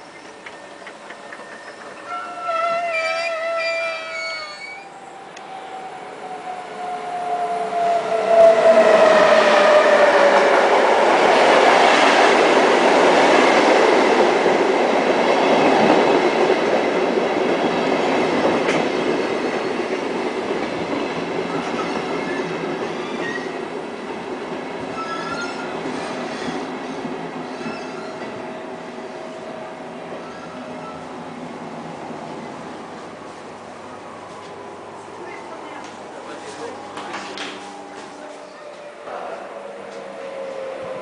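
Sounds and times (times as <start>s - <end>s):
electric locomotive whine: 0.0s - 41.0s.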